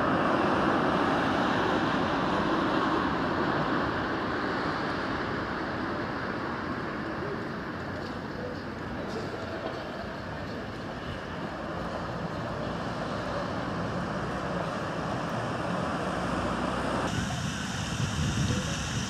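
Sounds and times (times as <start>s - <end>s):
outdoor rushing hiss with low rumble: 0.0s - 19.0s.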